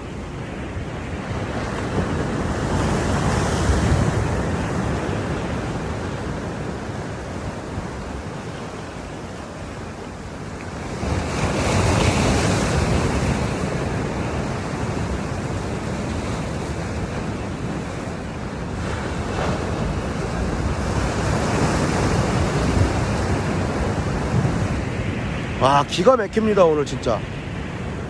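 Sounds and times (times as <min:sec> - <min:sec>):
surf waves crashing: 0:00.0 - 0:28.0
wind buffeting microphone: 0:00.0 - 0:28.0.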